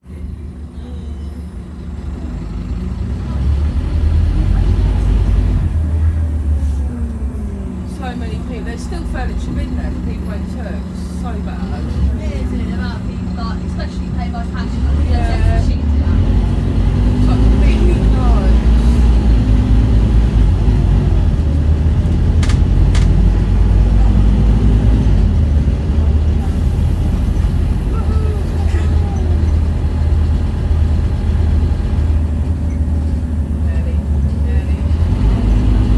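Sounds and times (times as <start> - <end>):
bus diesel engine rumbling: 0.0 - 35.9.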